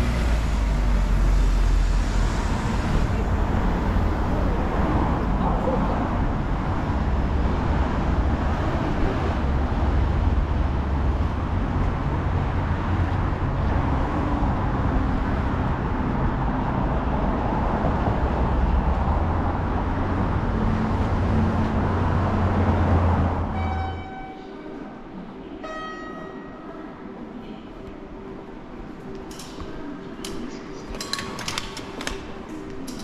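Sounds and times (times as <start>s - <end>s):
cars passing: 0.0s - 31.0s
road noise rumble: 0.0s - 33.0s.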